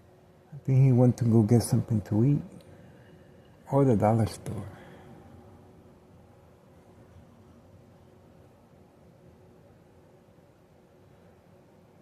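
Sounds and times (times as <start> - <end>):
thin constant tone: 0.0 - 12.0.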